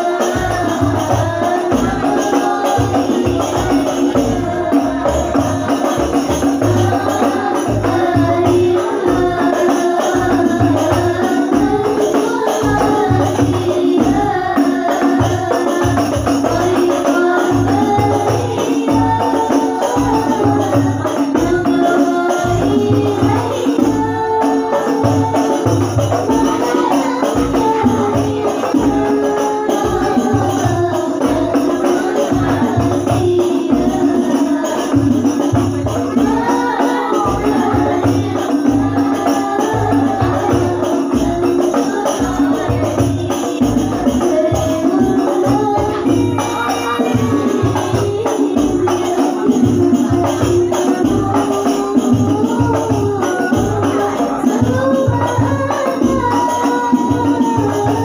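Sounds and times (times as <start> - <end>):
hand-struck frame drums: 0.0 - 58.0
women singing through microphones: 0.0 - 58.0.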